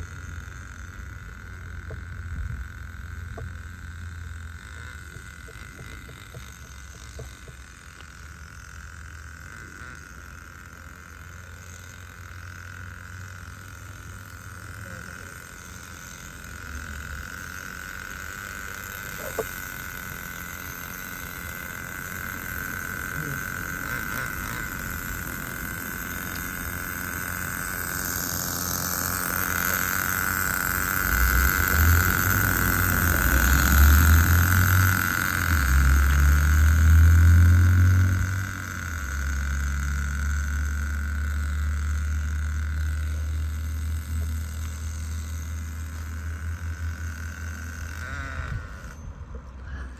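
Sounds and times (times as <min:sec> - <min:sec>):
small two-stroke engine running: 0:00.0 - 0:49.9.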